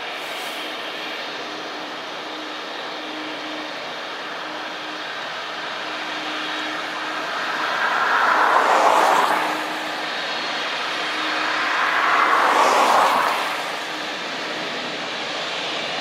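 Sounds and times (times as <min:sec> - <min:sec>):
vehicles passing on wet road: 0:00.0 - 0:16.0.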